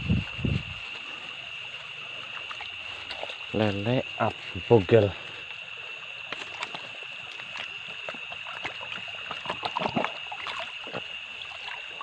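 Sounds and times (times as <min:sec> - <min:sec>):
night insects trilling: 0:00.0 - 0:12.0
stream water splashing: 0:00.9 - 0:12.0.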